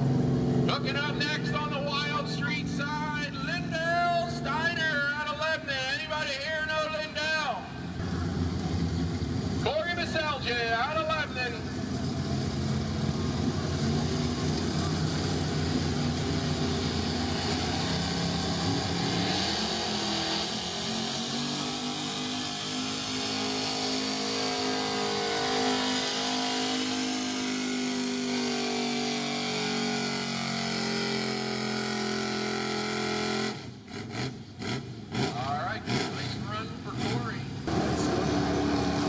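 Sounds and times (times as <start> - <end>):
pickup truck engine at high revs: 0.0 - 39.0.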